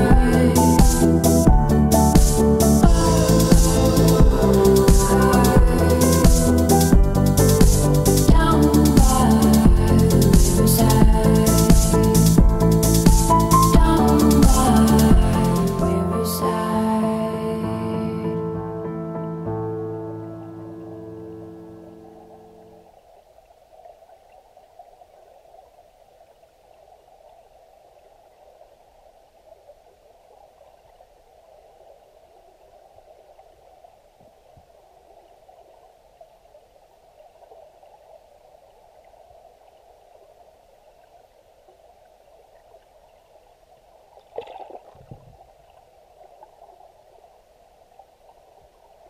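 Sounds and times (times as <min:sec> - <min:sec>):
muffled underwater river rush: 0:00.0 - 0:18.2, 0:20.0 - 0:49.0.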